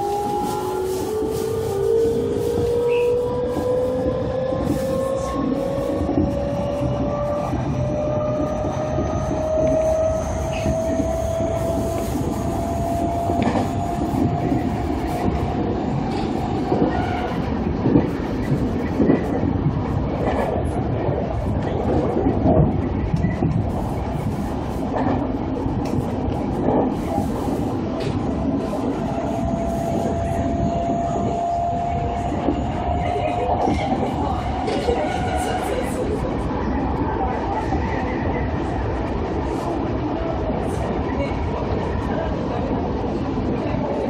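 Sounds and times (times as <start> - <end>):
wheels rumbling on rails: 0.0 - 44.0.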